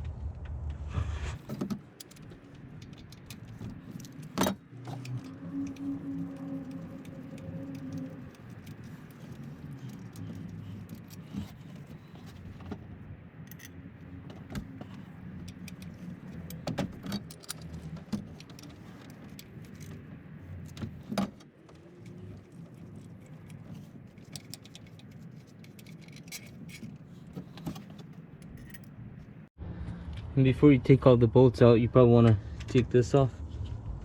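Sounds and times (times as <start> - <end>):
metal tools clinking on engine parts: 1.4 - 12.9, 13.5 - 29.4.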